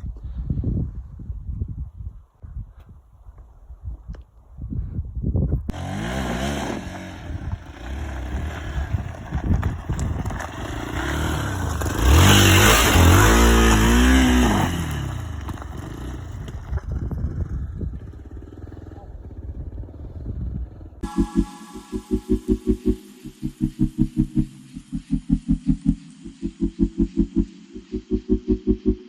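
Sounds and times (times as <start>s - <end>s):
motorcycle engine revving: 5.7s - 29.0s.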